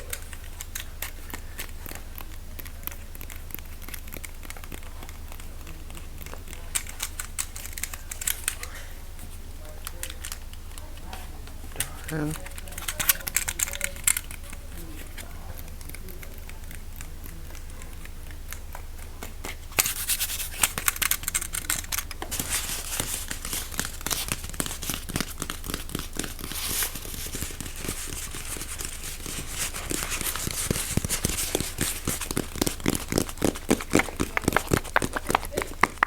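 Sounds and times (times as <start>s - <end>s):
crinkly material crinkling: 0.0s - 36.0s.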